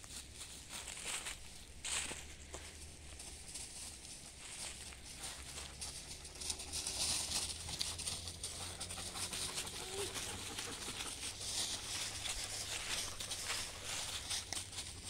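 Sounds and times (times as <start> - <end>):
dry leaves crunching underfoot: 0.0 - 15.0.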